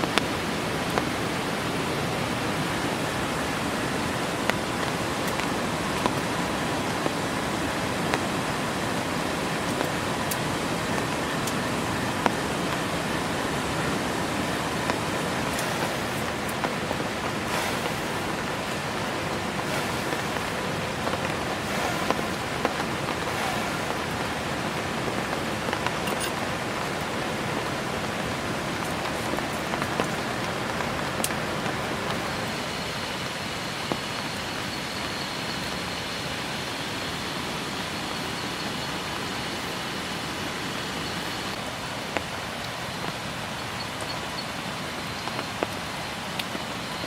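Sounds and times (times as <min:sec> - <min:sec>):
drips of raindrops close by: 0:00.0 - 0:47.0
faint high whine: 0:00.0 - 0:47.0
heavy rain hissing: 0:00.0 - 0:47.0.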